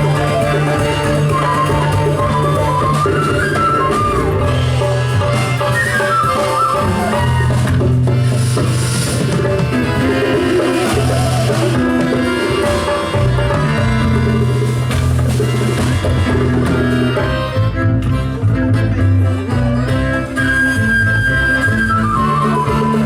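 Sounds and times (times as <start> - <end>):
live band playing: 0.0 - 23.0
low bass notes: 0.0 - 23.0.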